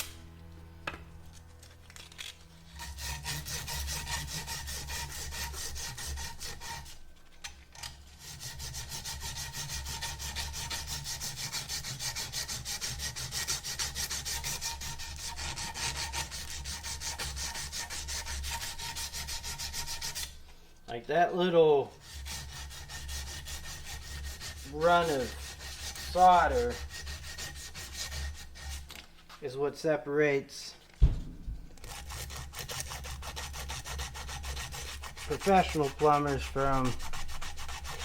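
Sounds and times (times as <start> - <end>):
sandpaper rubbing copper pipe: 1.6 - 7.3, 8.1 - 20.4, 21.5 - 29.6, 31.8 - 38.0.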